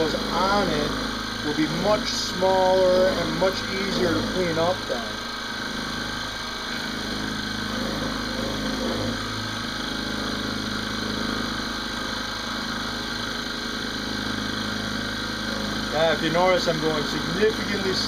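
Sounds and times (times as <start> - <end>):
milling machine hum: 0.0 - 18.0.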